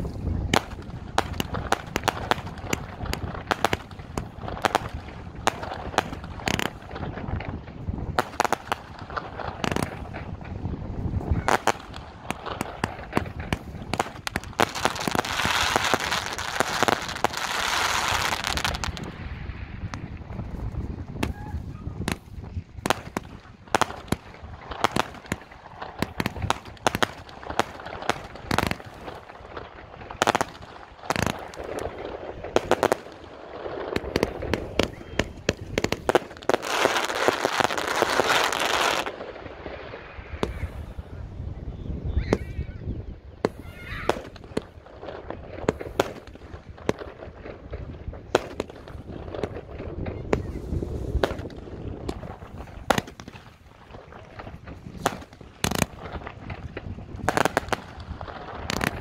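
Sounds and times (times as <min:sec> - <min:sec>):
firework hiss: 0:00.0 - 0:41.3, 0:48.2 - 0:59.0.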